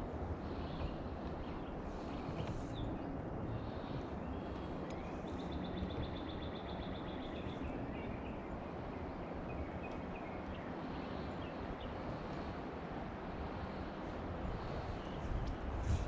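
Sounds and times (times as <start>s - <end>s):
outdoor background noise: 0.0s - 16.0s
small birds singing: 0.0s - 16.0s.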